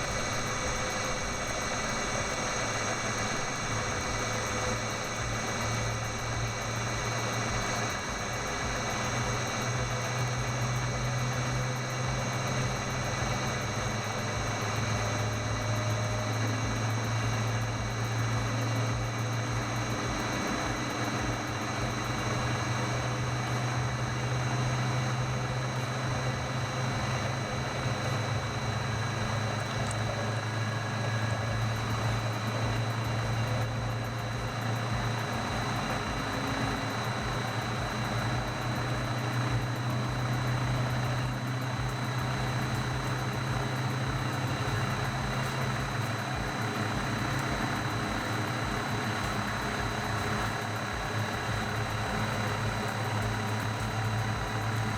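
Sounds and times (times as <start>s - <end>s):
centrifuge motor hum: 0.0s - 54.9s
thin high whine: 0.0s - 54.9s.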